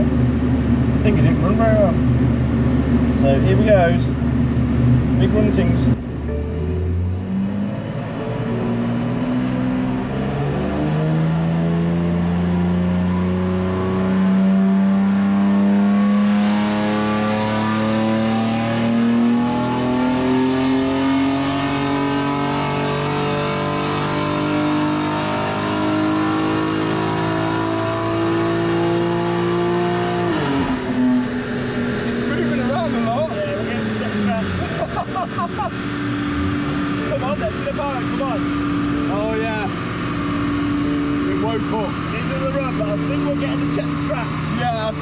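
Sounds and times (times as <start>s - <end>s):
car engine revving on dyno: 6.8s - 45.0s.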